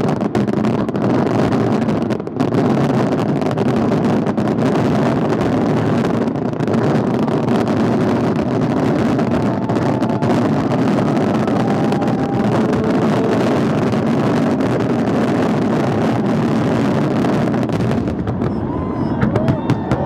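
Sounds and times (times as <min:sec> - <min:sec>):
fireworks rumbling and crackling: 0:00.0 - 0:20.0.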